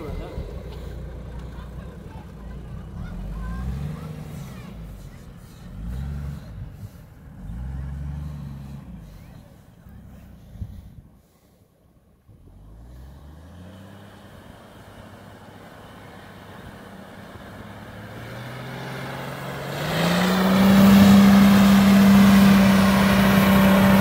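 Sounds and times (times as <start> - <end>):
vehicle engine revving: 0.0 - 10.9, 12.3 - 24.0.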